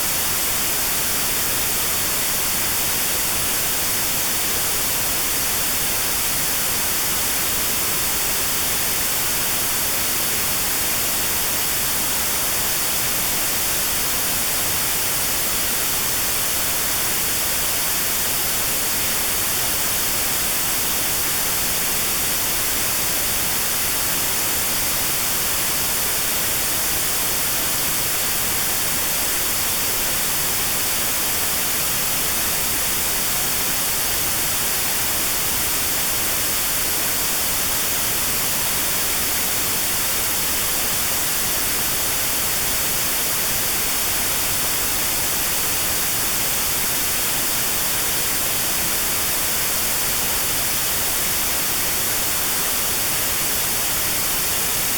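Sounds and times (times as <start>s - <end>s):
steady white noise: 0.0s - 54.9s.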